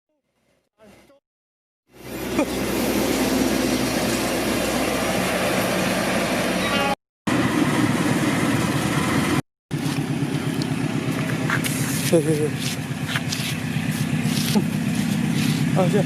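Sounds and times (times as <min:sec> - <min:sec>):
engine hum: 0:01.9 - 0:16.0
train rumbling past: 0:01.9 - 0:16.0.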